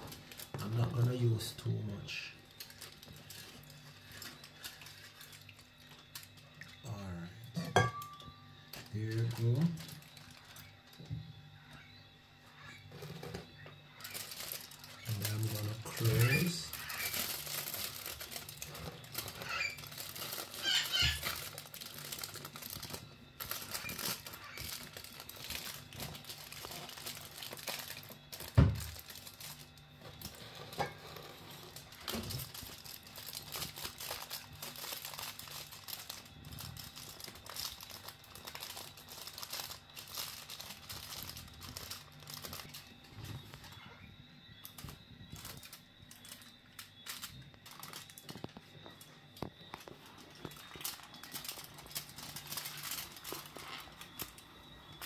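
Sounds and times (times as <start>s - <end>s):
aluminium foil crinkling: 0.0s - 11.7s, 12.6s - 43.9s, 44.5s - 55.0s.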